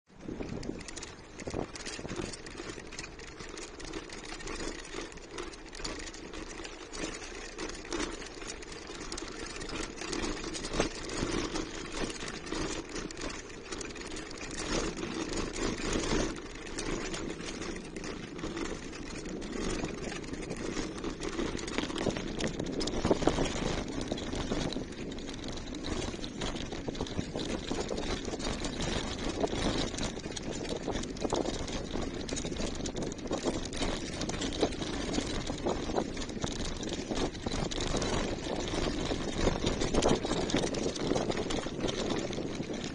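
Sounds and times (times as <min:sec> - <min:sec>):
bicycle rolling over cobblestones: 0:00.1 - 0:42.9.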